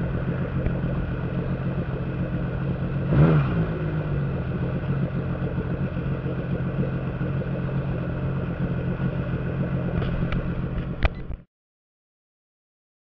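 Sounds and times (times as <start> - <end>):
watercraft engine idling: 0.0 - 11.2.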